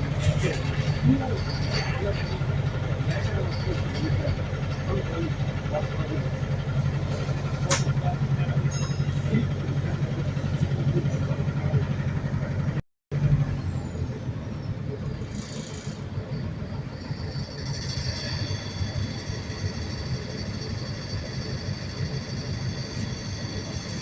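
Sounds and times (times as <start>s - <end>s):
bus drivetrain drone: 0.0s - 24.0s.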